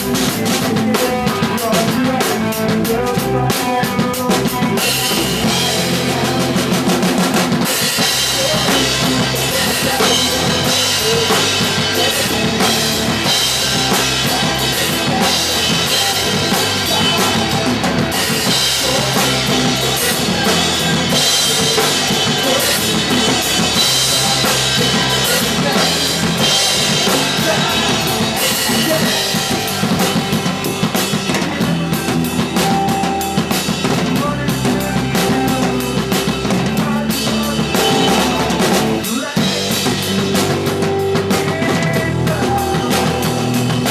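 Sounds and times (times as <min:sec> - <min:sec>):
bass drum and snare beat: 0:00.0 - 0:43.9
punk rock band playing live: 0:00.0 - 0:43.9.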